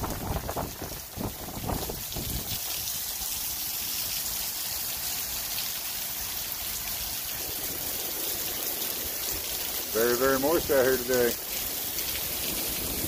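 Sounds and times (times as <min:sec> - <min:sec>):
steady rain running off roof: 0:00.0 - 0:13.0.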